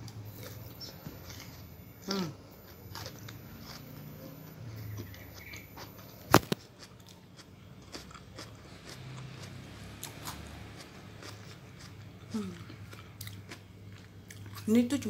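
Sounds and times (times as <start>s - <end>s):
chewing crisp melon: 0.0s - 14.8s.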